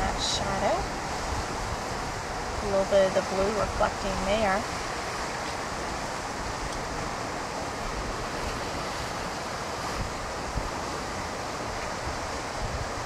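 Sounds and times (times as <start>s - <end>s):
surf washing on rocky shore: 0.0s - 13.0s
wind buffeting microphone: 0.0s - 13.0s.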